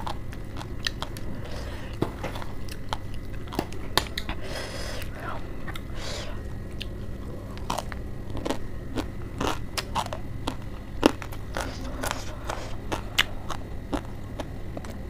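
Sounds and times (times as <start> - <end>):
crunchy chewing of lettuce: 0.0 - 15.0.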